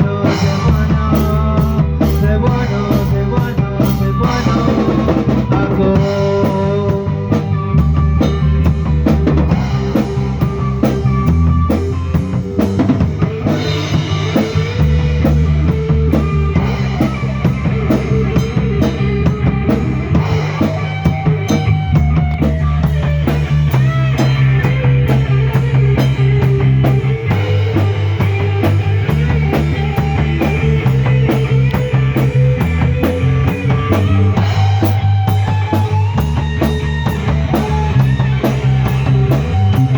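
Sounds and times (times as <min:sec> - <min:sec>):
drum kit beat: 0:00.0 - 0:39.9
live rock band playing: 0:00.0 - 0:39.9.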